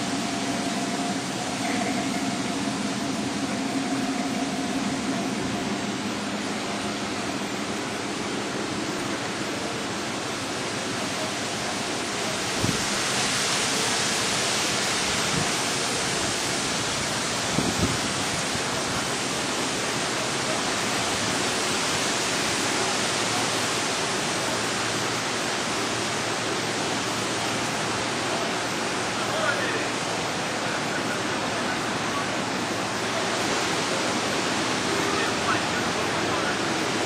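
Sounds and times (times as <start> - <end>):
storm wind and rain rushing: 0.0 - 37.0.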